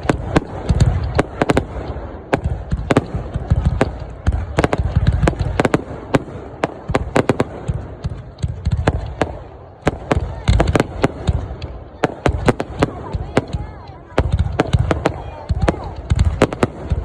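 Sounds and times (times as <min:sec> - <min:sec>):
fireworks cracking: 0:00.0 - 0:17.0.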